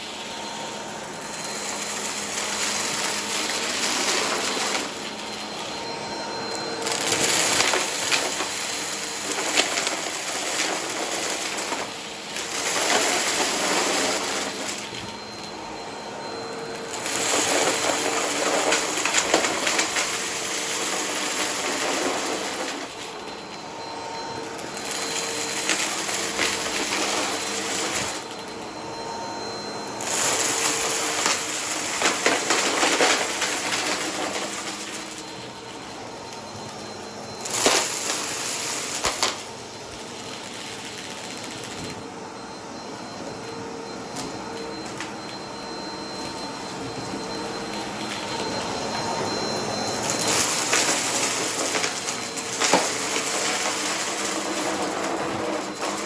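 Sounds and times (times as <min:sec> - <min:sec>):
debris crackling in vacuum: 0:00.0 - 0:28.4, 0:30.0 - 0:42.0, 0:46.2 - 0:56.0
upright vacuum cleaner running: 0:00.0 - 0:56.0.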